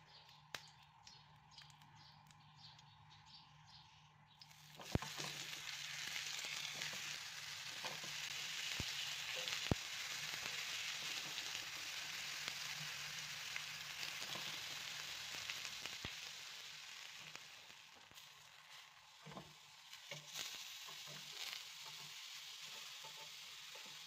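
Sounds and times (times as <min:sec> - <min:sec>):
eggplant sizzling in oil: 0:04.4 - 0:24.0.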